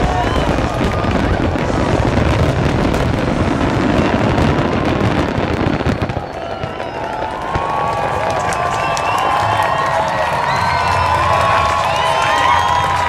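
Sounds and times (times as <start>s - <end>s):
fireworks barrage bangs and crackling: 0.0s - 13.0s.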